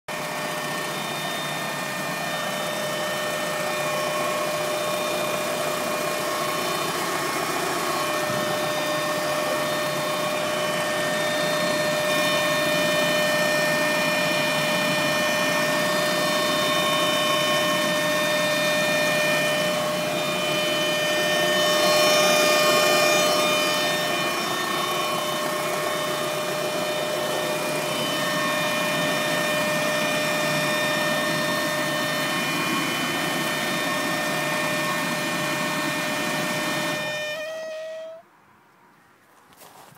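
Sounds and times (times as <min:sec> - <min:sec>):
car engine running: 0:00.1 - 0:37.4
high-pitched engine whine: 0:00.1 - 0:38.3.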